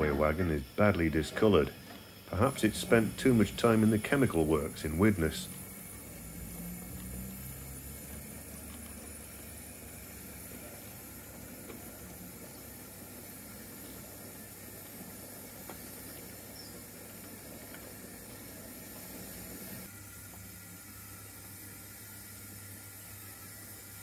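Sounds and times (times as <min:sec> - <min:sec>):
wheels clicking over rail joints: 0:00.0 - 0:20.5
model train rumble and hiss: 0:00.0 - 0:24.0.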